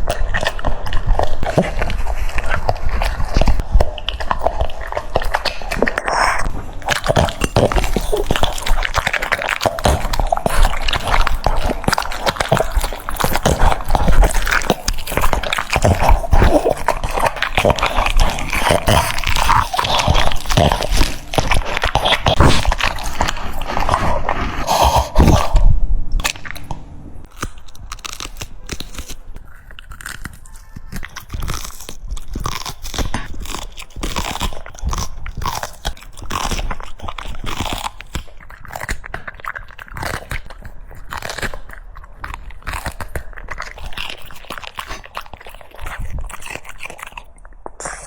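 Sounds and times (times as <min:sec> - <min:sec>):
dog chewing noisily: 0:00.0 - 0:48.0.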